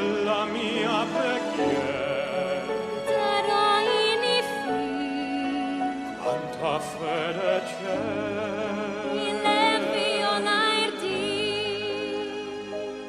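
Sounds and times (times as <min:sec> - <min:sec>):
operatic singing: 0:00.0 - 0:13.0.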